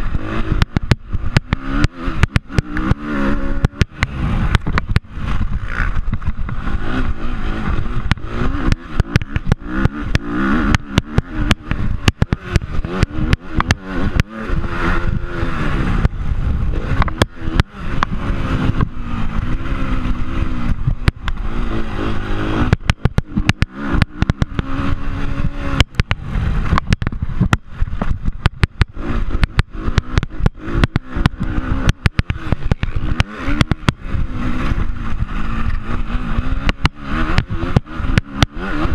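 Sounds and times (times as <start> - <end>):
dirt bike engine revving: 0.0 - 38.9
wind rumble: 0.0 - 38.9.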